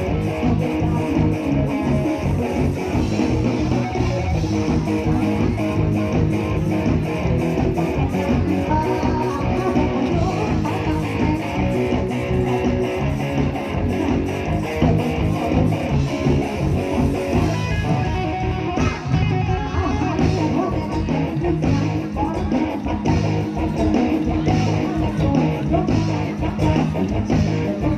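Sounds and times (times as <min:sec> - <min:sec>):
live band playing instrumental: 0:00.0 - 0:27.9.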